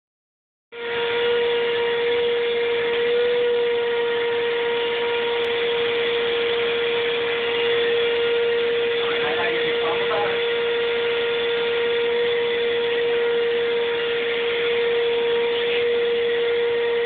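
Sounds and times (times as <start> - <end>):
vacuum cleaner running: 0.7 - 17.0.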